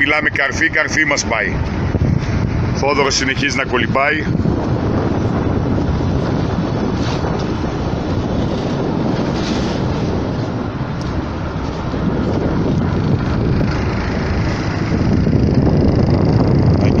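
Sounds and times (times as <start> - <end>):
boat engine running: 0.0 - 17.0
choppy water against hull: 0.0 - 17.0
wind buffeting microphone: 0.0 - 17.0.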